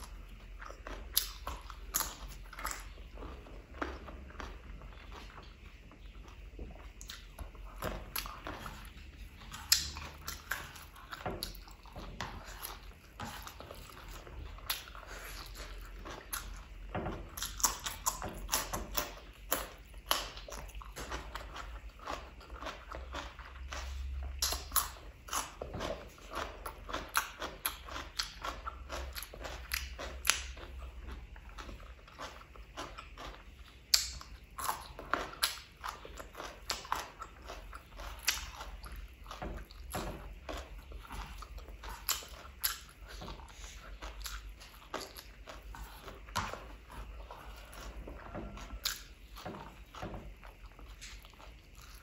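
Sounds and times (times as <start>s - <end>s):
chewing and wet mouth smacking: 0.0s - 52.0s.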